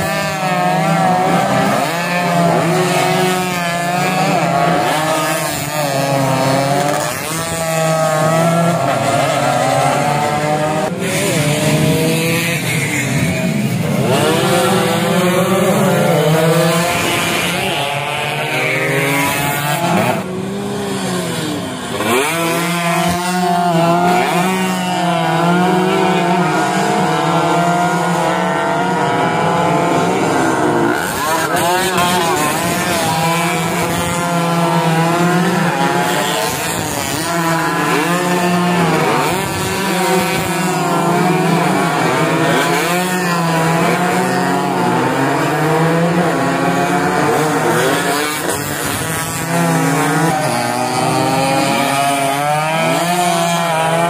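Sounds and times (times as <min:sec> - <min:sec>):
motorcycles revving hard: 0:00.0 - 0:54.0.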